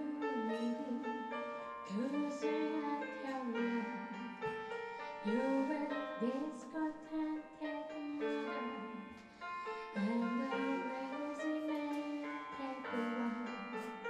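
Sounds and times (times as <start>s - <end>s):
electric keyboard: 0.0s - 14.0s
woman singing: 0.0s - 14.0s.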